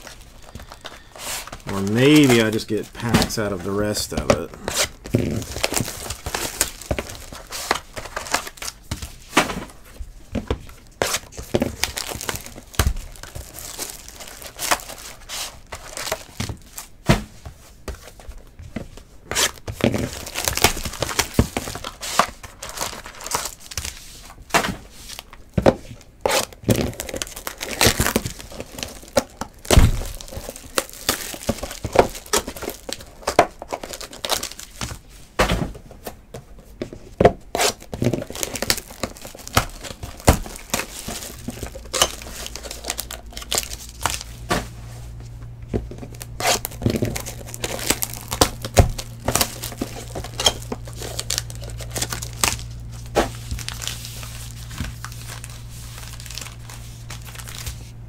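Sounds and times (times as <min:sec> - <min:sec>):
plastic wrap crinkling and tearing: 0:00.0 - 0:17.0, 0:18.0 - 0:35.1, 0:37.5 - 0:45.2, 0:45.8 - 0:58.0.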